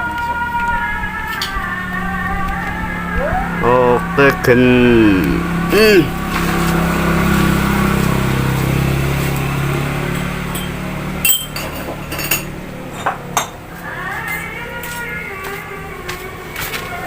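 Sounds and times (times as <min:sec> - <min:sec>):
passing vehicle engine hum: 0:00.0 - 0:17.0.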